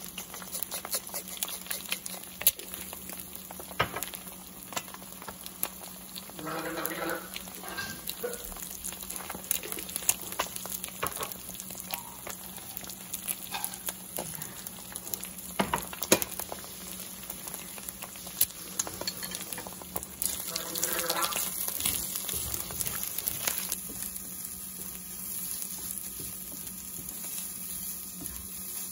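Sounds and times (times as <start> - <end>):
eggs sizzling in a pan: 0.0 - 28.9.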